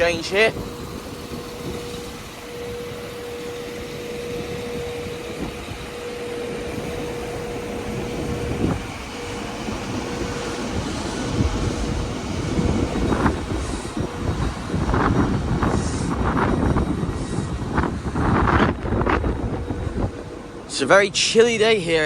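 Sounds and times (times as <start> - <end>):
train engines rumbling: 0.0 - 22.0.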